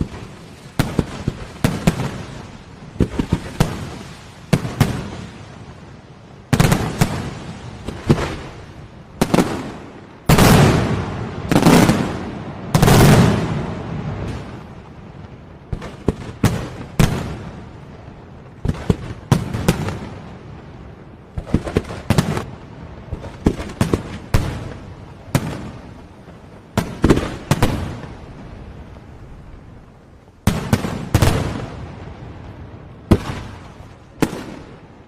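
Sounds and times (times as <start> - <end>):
fireworks bangs: 0.0 - 29.8, 30.4 - 35.0
fireworks crackling hiss: 0.0 - 35.0.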